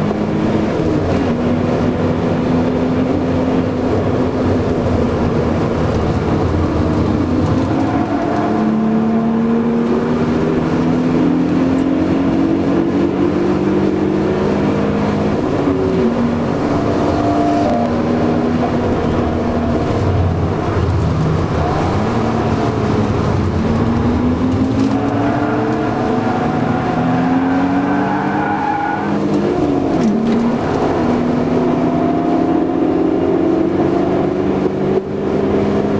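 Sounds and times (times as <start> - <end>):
car engine accelerating: 0.0 - 35.9
road and wind noise: 0.0 - 35.9.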